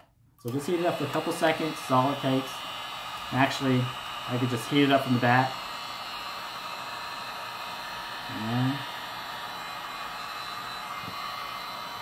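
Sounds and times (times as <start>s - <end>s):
heat gun blowing hiss: 0.4s - 12.0s.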